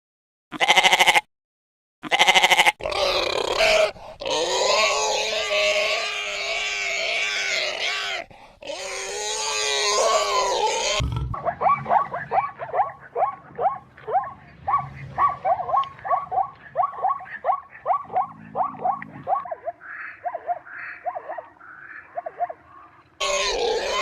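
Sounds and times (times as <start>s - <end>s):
animal calls: 2.1s - 24.0s.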